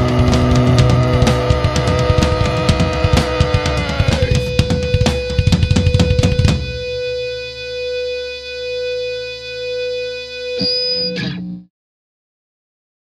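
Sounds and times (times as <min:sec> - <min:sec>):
heavy metal band playing: 0:00.0 - 0:11.4
electric guitar note ringing: 0:00.0 - 0:11.7.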